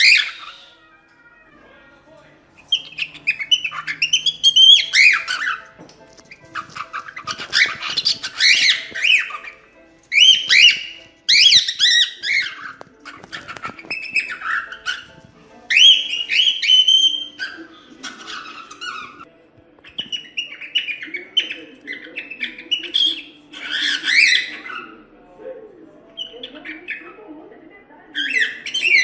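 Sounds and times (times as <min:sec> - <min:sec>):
cockatiel whistling and chirping: 0:00.0 - 0:00.8, 0:02.6 - 0:15.1, 0:15.7 - 0:24.9, 0:28.2 - 0:29.0.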